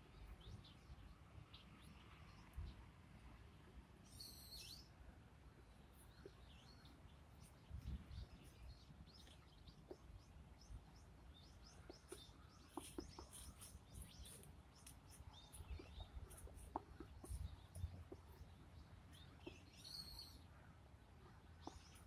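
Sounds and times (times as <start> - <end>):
small birds chirping: 0.0 - 2.9, 4.0 - 22.0.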